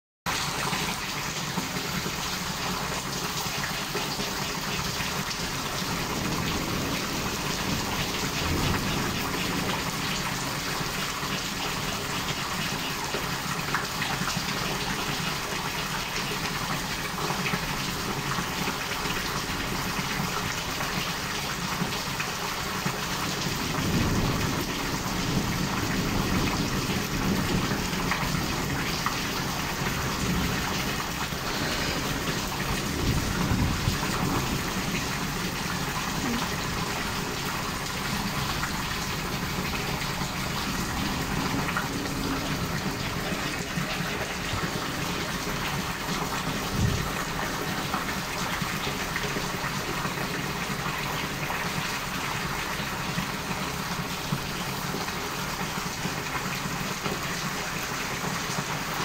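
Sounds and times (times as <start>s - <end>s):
heavy rain pouring: 0.3s - 59.0s
low rumble of thunder: 1.4s - 54.9s.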